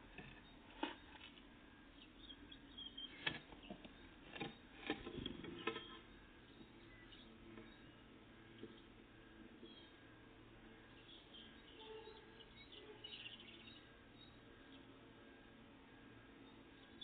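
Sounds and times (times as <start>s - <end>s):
faint songbird chirps: 0.0s - 17.0s.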